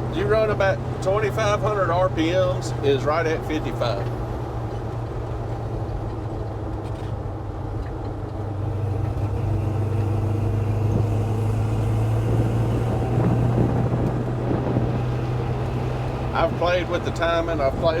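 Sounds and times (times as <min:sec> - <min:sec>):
engine and exhaust drone: 0:00.0 - 0:18.0.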